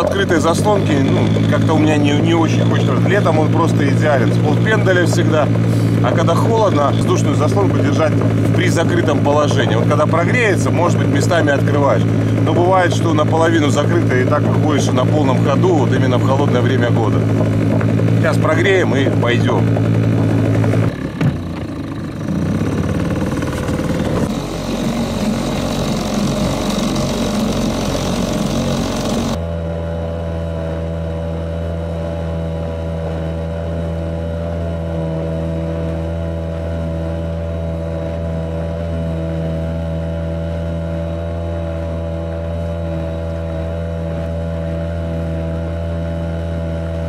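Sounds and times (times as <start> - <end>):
outboard motor running: 0.0 - 47.0.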